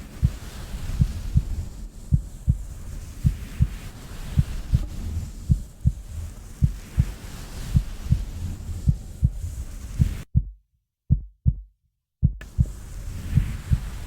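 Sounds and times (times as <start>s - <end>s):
low steady rumble: 0.0s - 10.5s, 12.2s - 14.0s
slow heartbeat: 0.2s - 14.0s.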